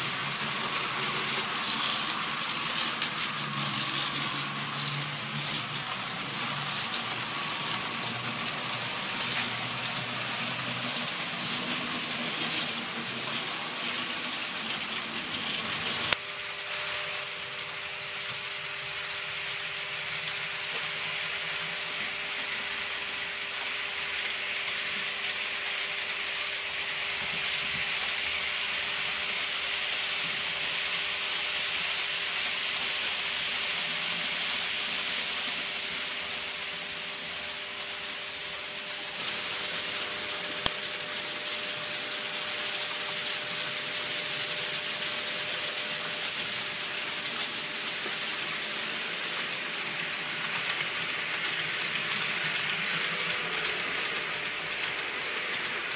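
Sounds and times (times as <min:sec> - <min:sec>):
model train wheels clicking on track: 0:00.0 - 0:55.9.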